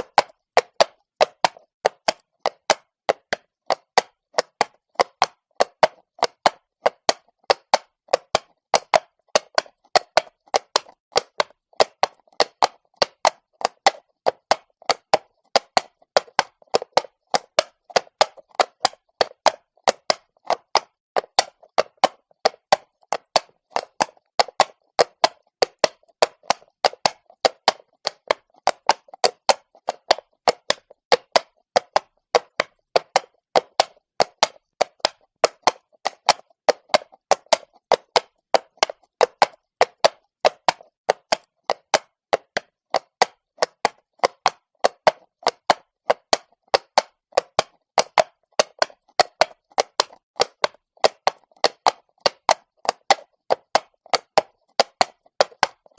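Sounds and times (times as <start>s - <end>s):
horse hooves clip-clopping on stone: 0.0s - 55.9s.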